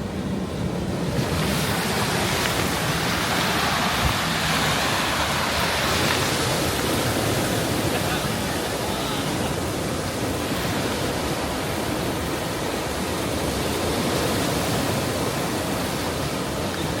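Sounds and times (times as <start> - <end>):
breaking sea waves: 0.0 - 17.0.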